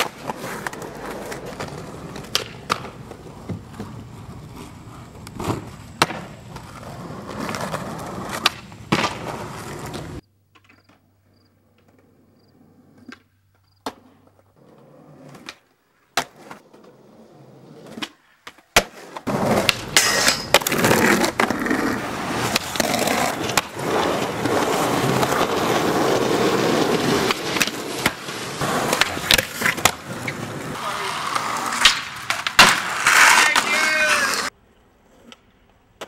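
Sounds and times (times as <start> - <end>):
skateboard clacks: 0.0 - 11.0, 18.0 - 36.0
skateboard wheels rolling on concrete: 0.0 - 36.0.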